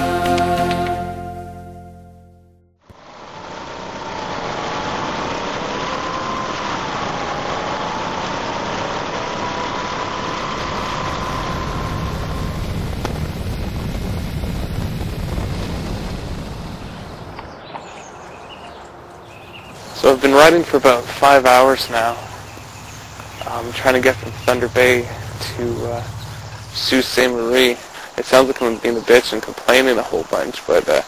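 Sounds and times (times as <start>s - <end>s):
motorcycle engine drone: 0.0s - 31.0s
heavy wind rush: 3.0s - 31.0s.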